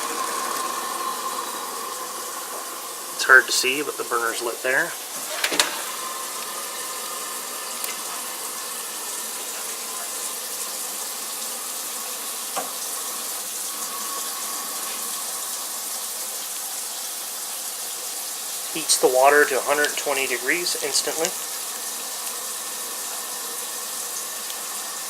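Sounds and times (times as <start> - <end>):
water heater rushing hiss: 0.0 - 25.0.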